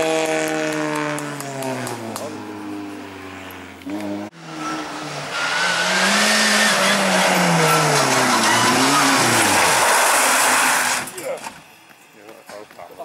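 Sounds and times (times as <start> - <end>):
car engine revving high: 0.0 - 11.1
tyre and road noise: 0.0 - 13.0.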